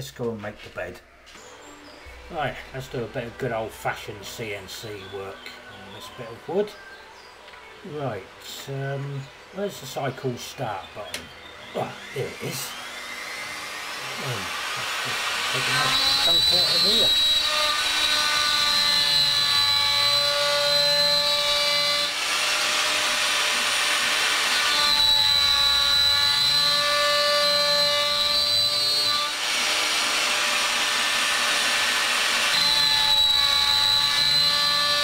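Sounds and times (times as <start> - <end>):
router cutting wood: 0.0 - 35.0.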